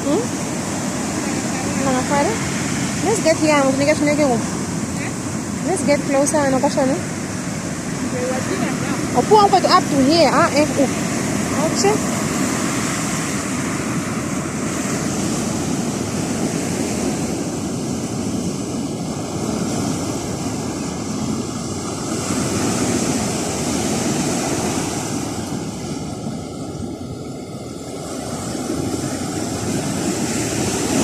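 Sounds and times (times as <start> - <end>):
surf washing ashore: 0.0 - 31.0
wind on microphone: 0.0 - 31.0.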